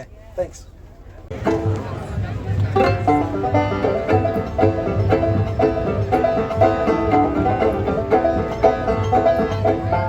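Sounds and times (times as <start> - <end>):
banjo picking a quick tune: 1.3 - 10.0
steady low beat: 1.3 - 10.0.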